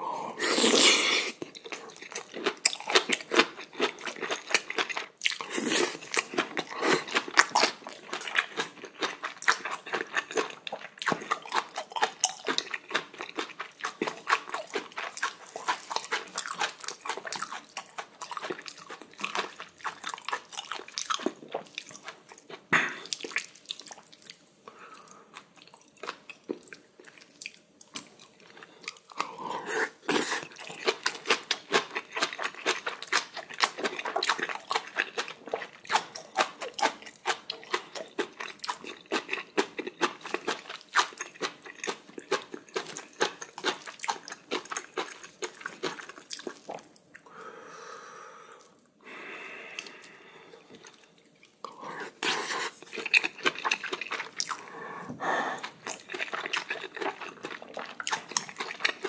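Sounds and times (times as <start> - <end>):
chewing and mouth smacking: 1.3 - 29.3, 30.1 - 47.3, 50.6 - 54.8, 55.6 - 59.0.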